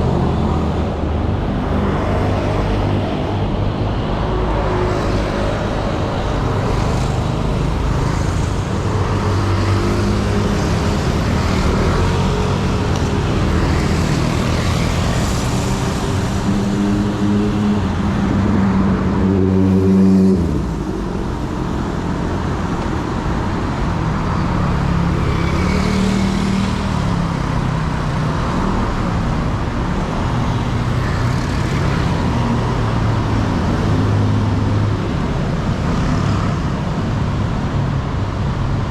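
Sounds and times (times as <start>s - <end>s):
cars and motorbikes passing: 0.0s - 38.9s
loud engine close by: 0.0s - 38.9s.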